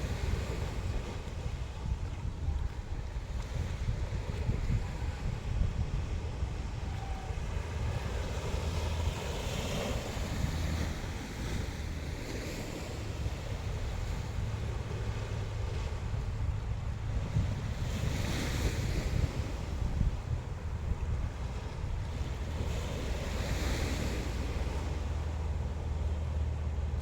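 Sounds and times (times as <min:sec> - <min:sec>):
sea waves washing onto shore: 0:00.0 - 0:27.0
wind buffeting microphone: 0:00.0 - 0:27.0.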